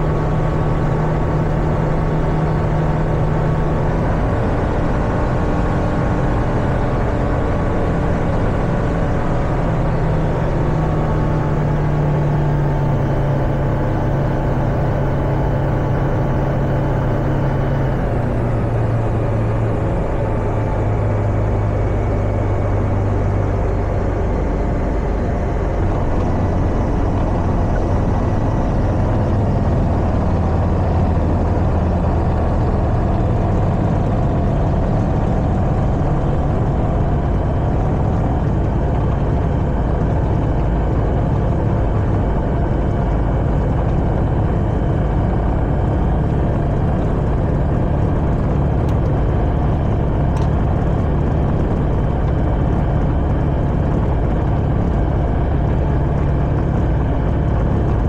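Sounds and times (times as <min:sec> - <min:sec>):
propeller aircraft engine drone: 0:00.0 - 0:58.0.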